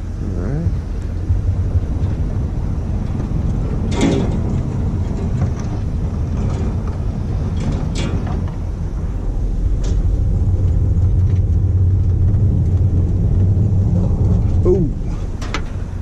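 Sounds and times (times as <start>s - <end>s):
pickup engine rumbling: 0.0s - 16.0s.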